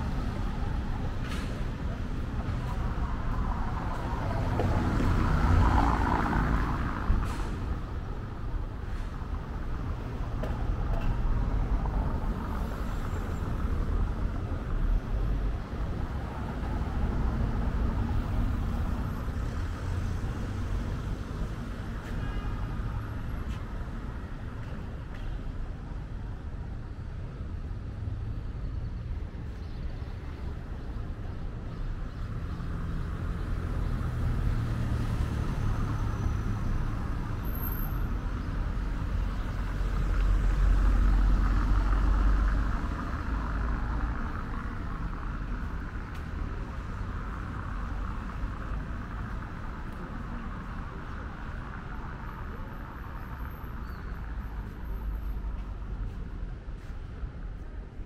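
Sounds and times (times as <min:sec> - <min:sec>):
traffic passing: 0:00.0 - 0:58.0.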